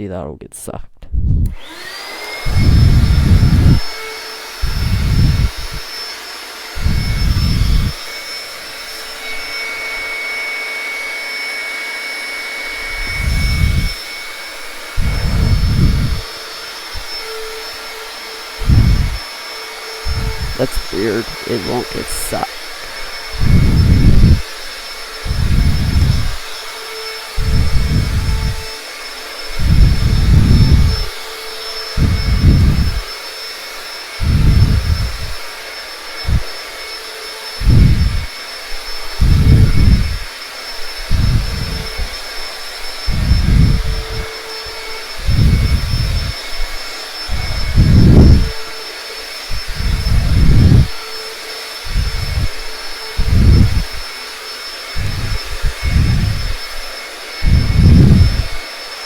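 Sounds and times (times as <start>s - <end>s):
vacuum cleaner whining: 1.4s - 59.0s.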